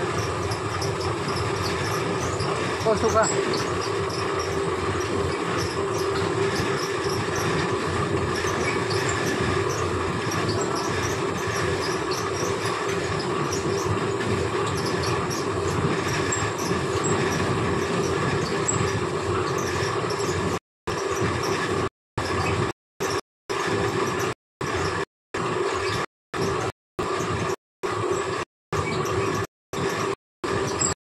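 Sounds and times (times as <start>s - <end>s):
machine rumbling and humming: 0.0s - 31.0s.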